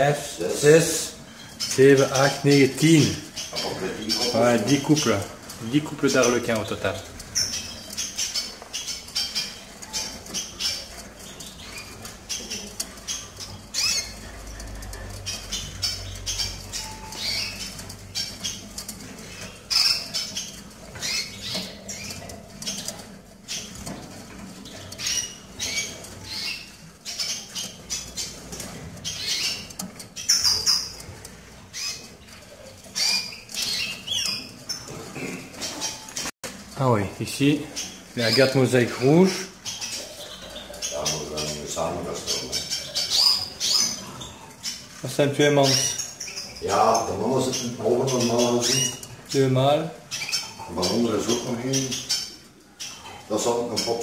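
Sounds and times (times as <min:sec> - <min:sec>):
canaries chirping: 0:00.0 - 0:54.0
canaries fluttering wings: 0:00.0 - 0:54.0.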